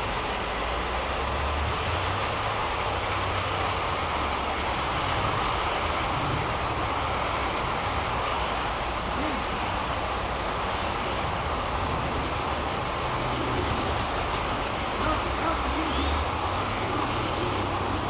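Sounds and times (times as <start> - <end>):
model train wheels rolling: 0.0 - 18.0.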